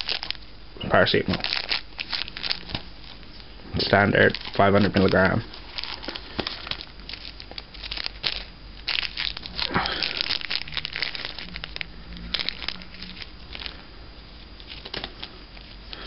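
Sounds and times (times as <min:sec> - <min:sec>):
blister packs crinkling: 0:00.0 - 0:00.4, 0:01.0 - 0:13.8, 0:14.4 - 0:16.0.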